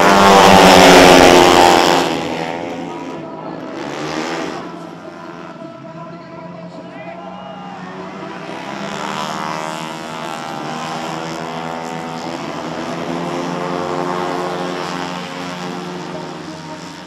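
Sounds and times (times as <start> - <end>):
racing scooter engines revving: 0.0 - 17.0.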